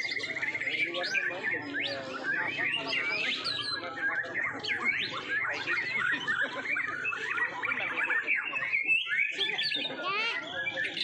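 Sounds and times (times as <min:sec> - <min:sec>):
birds singing: 0:00.0 - 0:11.0
murmur of people: 0:00.0 - 0:11.0.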